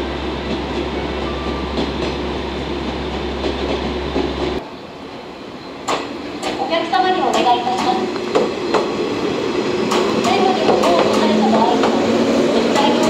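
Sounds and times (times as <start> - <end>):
rail clicks: 0.0 - 4.6, 5.8 - 13.0
train wheels rumbling on rail: 0.0 - 13.0.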